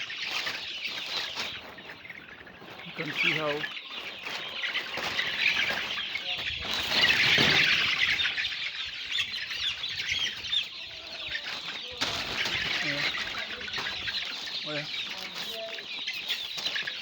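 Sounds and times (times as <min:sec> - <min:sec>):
chickens chirping and clucking: 0:00.0 - 0:17.0.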